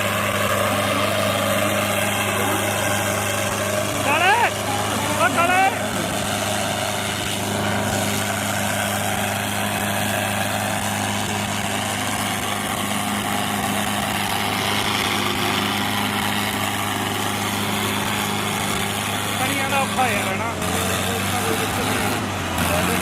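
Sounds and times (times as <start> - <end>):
tractor diesel engines running: 0.0 - 23.0.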